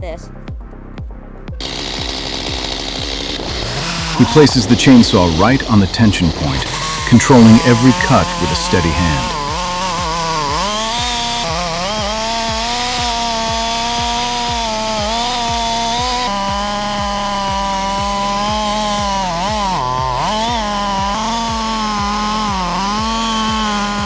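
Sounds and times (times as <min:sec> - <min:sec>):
chainsaw cutting at high revs: 0:01.6 - 0:24.0.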